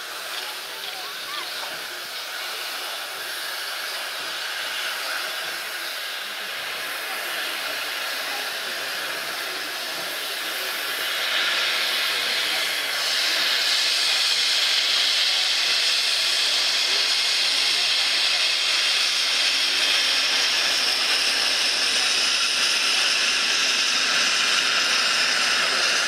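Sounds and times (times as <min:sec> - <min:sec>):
steam locomotive venting steam: 0:00.0 - 0:26.0.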